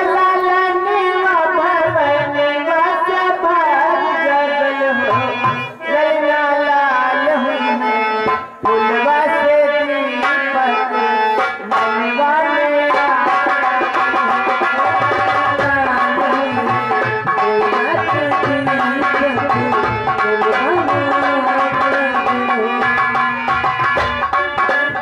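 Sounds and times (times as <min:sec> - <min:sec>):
person singing a melody: 0:00.0 - 0:23.7
tabla playing: 0:00.0 - 0:25.0.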